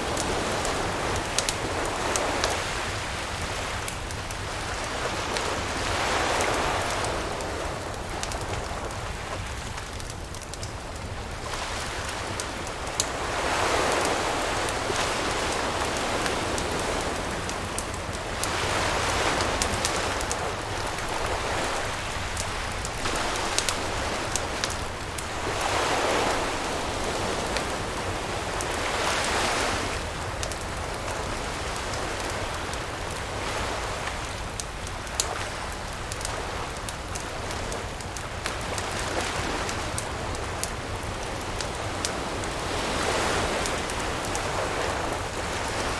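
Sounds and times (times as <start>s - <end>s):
campfire crackling: 0.0s - 45.9s
surf washing in: 0.0s - 45.9s.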